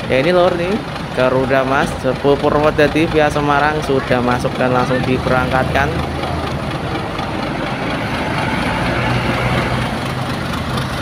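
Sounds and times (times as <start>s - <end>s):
bus diesel engine humming: 0.0s - 11.0s.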